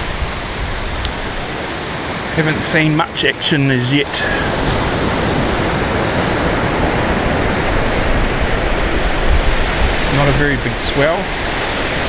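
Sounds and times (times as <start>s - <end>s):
wind rumble on microphone: 0.0s - 2.4s, 4.3s - 12.0s
waves breaking on beach: 0.0s - 12.0s.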